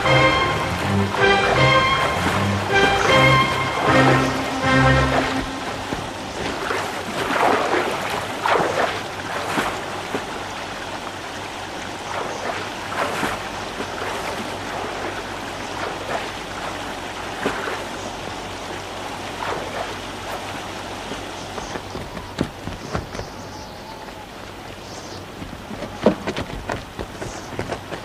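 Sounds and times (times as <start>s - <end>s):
water splashing from swimming: 0.0s - 23.4s.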